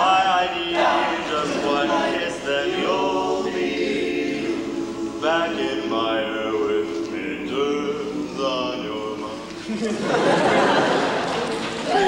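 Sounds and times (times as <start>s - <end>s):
held vocal backing harmonies: 0.0s - 12.0s.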